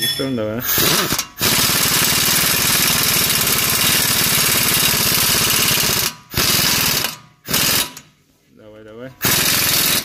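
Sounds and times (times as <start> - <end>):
impact wrench hammering: 0.0 - 8.1, 9.2 - 10.0.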